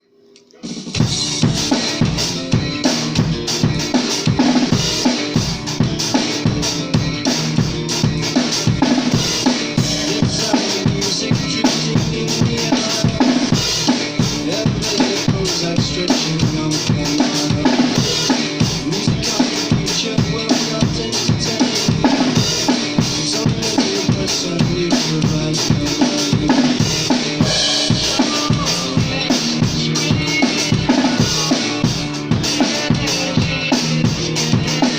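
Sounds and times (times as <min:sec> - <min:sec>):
rock music with drum kit: 0:00.6 - 0:34.9.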